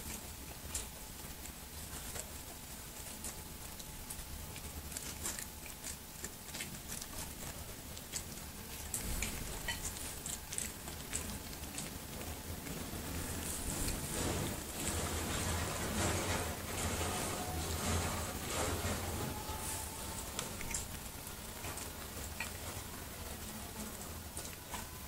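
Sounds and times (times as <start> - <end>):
kitten chewing and licking: 0.0 - 25.0
soft rustling: 0.0 - 25.0.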